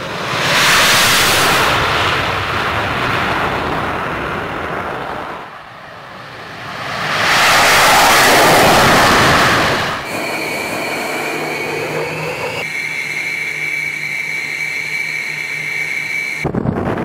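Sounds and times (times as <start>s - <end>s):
jet engines flying past: 0.0s - 17.0s.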